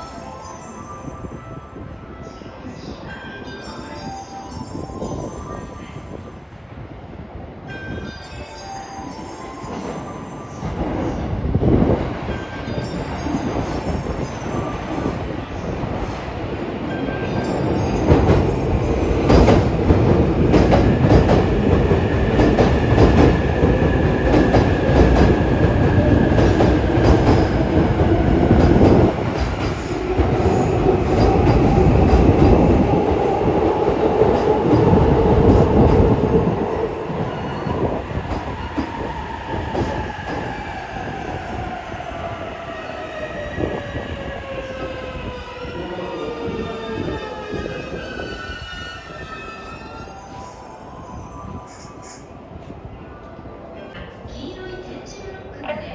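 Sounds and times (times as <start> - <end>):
train rumbling past: 4.9 - 55.6.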